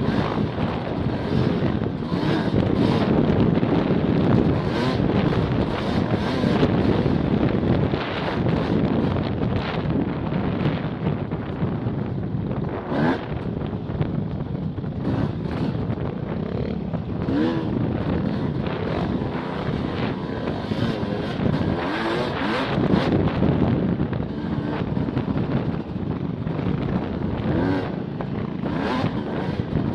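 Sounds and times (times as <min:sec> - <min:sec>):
motorcycle engine revving: 0:00.0 - 0:29.9
wind buffeting microphone: 0:00.0 - 0:29.9.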